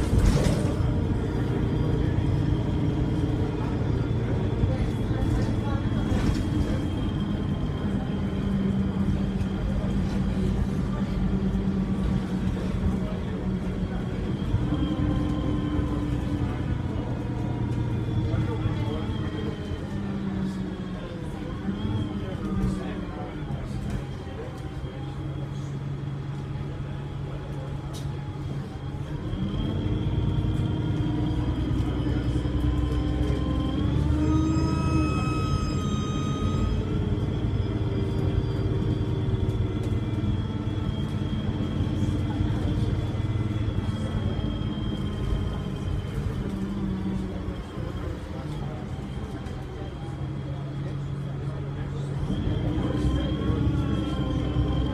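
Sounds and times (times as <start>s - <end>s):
bus diesel engine running: 0.0s - 54.9s.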